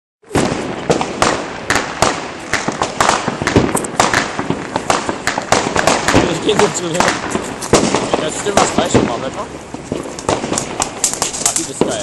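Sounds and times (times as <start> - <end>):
fireworks bangs: 0.2 - 12.0
fireworks crackle: 0.2 - 12.0.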